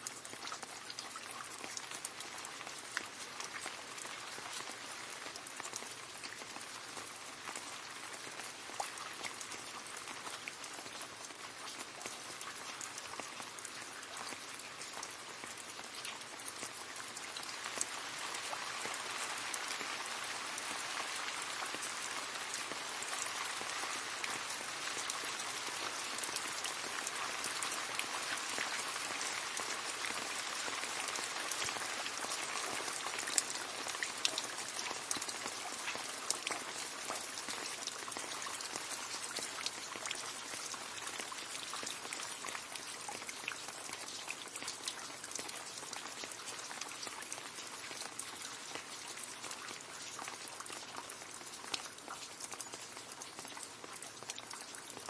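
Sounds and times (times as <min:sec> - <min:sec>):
rain splashing into a puddle: 0:00.0 - 0:55.0.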